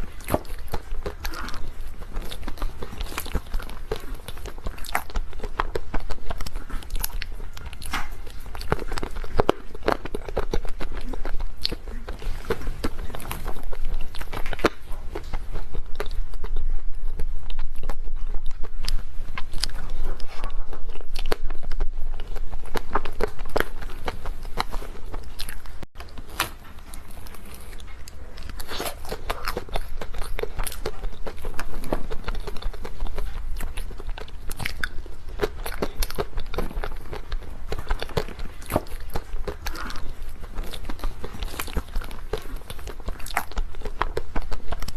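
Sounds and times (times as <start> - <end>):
chewing cake: 0.0 - 44.9.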